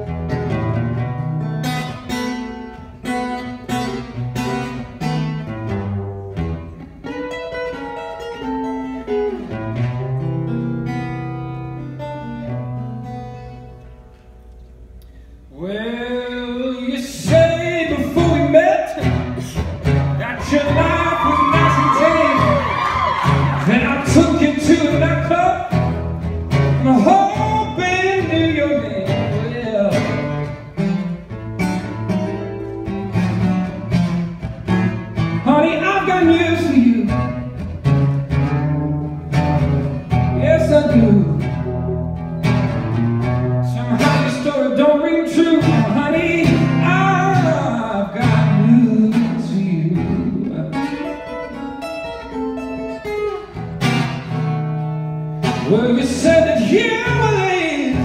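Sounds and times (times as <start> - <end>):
blues acoustic guitar: 0.0 - 58.0.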